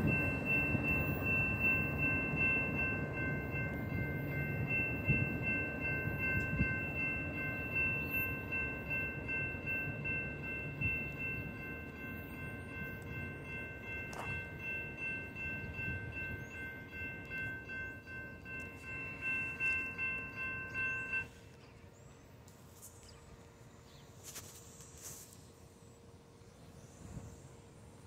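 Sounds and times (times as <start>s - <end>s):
railroad crossing bell ringing: 0.0s - 22.7s
freight train rumble: 0.0s - 28.0s.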